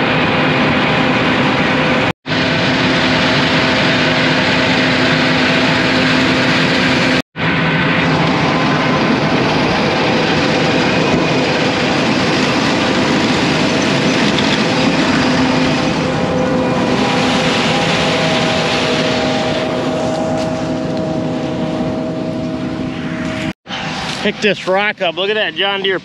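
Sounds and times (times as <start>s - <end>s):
combine harvester running: 0.0s - 26.0s
constant machine whine: 0.0s - 26.0s.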